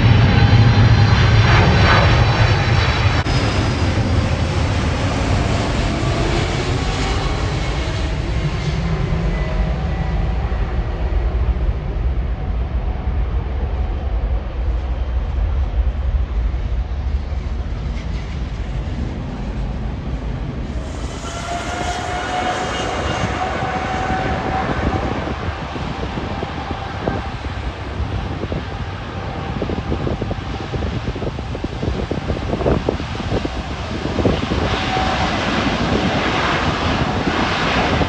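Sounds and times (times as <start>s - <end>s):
jet engines rumbling: 0.0s - 38.0s
jet roar with high whine: 0.0s - 38.0s.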